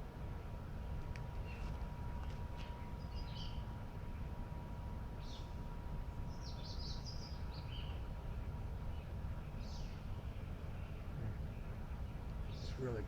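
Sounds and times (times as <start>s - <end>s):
low background rumble: 0.0s - 13.0s
songbirds chirping: 0.8s - 13.0s.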